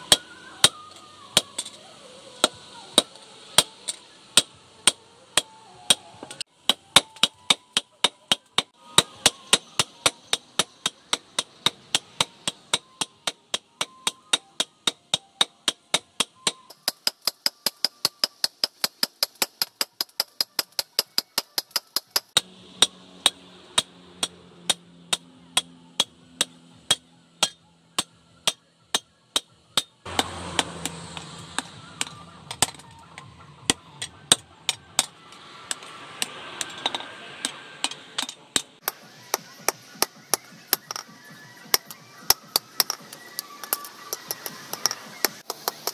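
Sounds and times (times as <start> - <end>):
hammer striking steel on anvil: 2.4 - 45.9.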